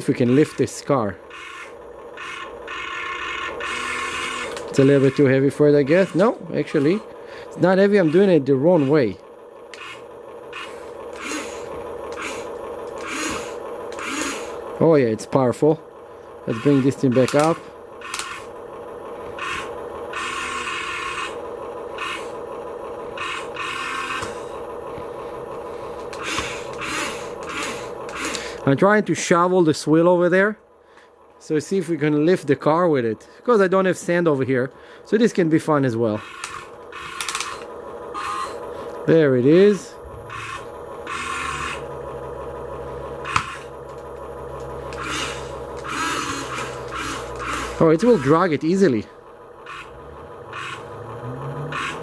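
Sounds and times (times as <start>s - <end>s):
small electric motors whirring: 0.0s - 14.9s, 15.6s - 28.7s, 36.0s - 52.0s
steady hum: 0.0s - 52.0s.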